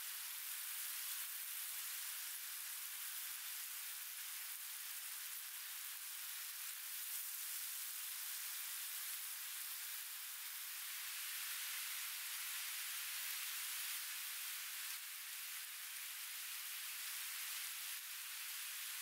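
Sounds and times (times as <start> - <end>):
meat and egg sizzling in pan: 0.0 - 19.0.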